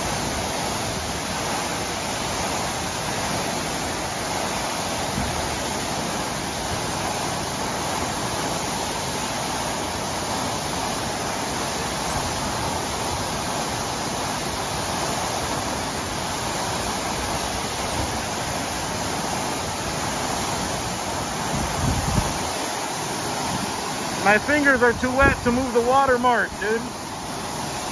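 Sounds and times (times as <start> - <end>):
water gushing onto pavement: 0.0 - 27.9.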